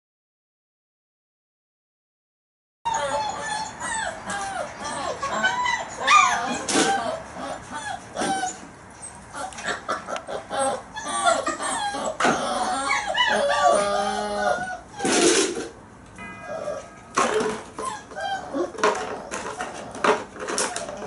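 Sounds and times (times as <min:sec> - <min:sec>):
puppies yipping and whining: 0:02.9 - 0:15.8, 0:16.4 - 0:21.0.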